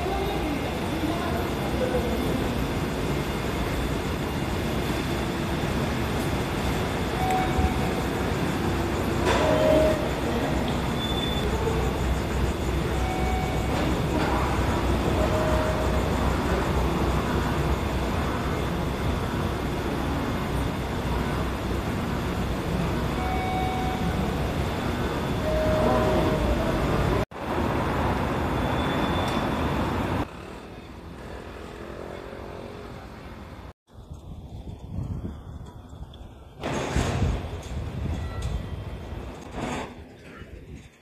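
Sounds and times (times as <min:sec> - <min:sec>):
moving vehicle rumble: 0:00.0 - 0:41.0.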